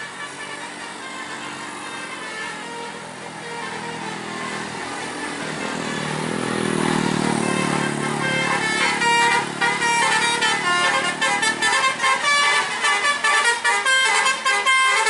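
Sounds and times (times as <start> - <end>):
bus engine: 0.0 - 15.0
musical bus horn: 0.0 - 15.0.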